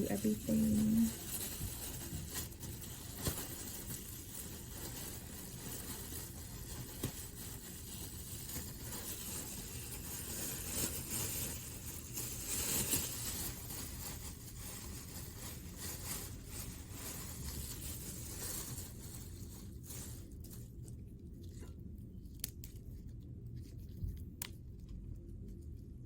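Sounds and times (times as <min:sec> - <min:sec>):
food packaging rustling: 0:00.0 - 0:24.8.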